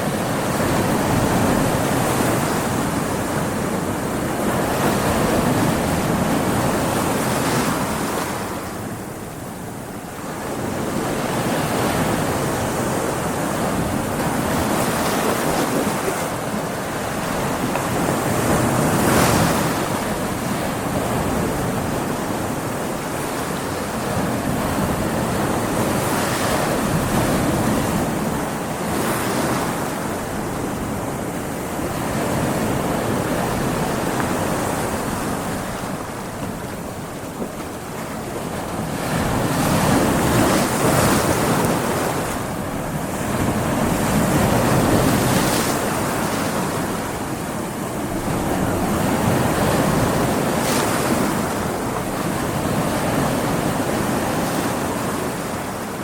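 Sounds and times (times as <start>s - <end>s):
ocean waves breaking on rocks: 0.0s - 56.0s.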